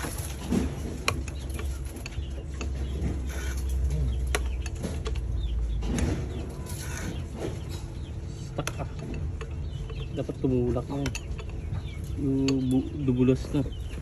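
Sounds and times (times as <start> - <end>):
sharp clicks and knocks: 0.0 - 12.9.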